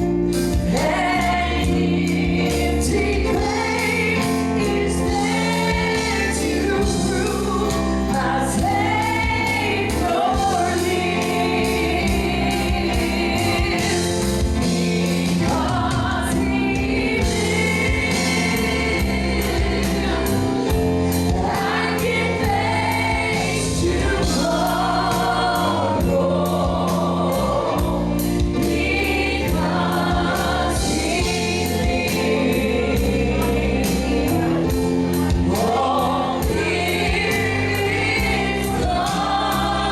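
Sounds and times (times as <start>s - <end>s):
band with drums and bass: 0.0s - 39.9s
gospel choir singing: 0.0s - 39.9s.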